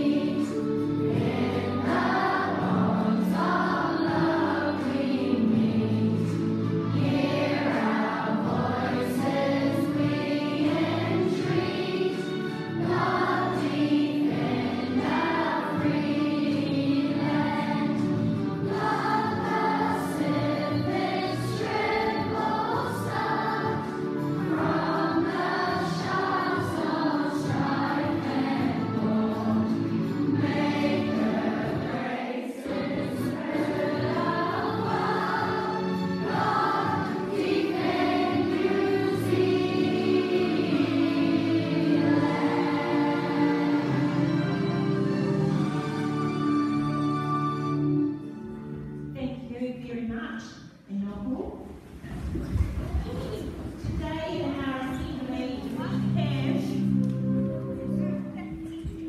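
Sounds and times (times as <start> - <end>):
children singing together: 0.0 - 48.0.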